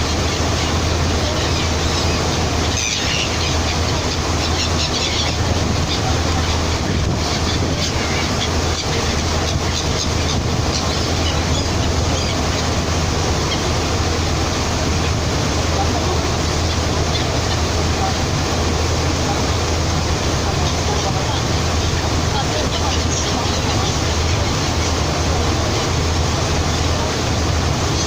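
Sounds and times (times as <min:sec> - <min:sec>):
seagulls crying: 0:00.0 - 0:28.0.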